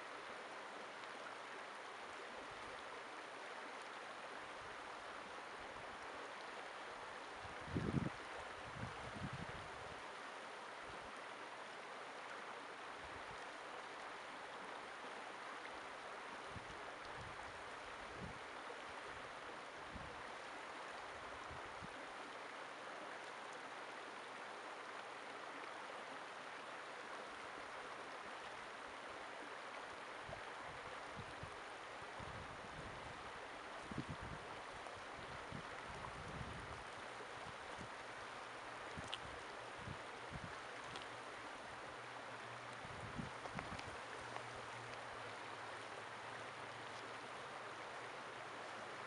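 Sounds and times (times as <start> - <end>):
river running over rocks: 0.0 - 49.0.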